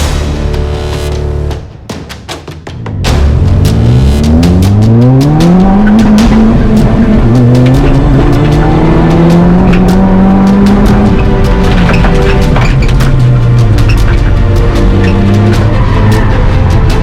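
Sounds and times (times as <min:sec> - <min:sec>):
rally car engine accelerating: 0:02.8 - 0:17.0.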